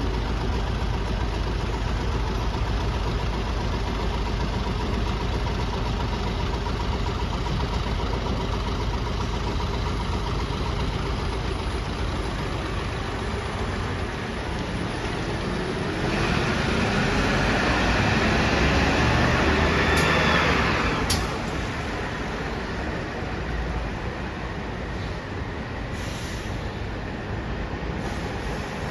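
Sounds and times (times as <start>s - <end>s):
bus engine idling: 0.0s - 28.9s.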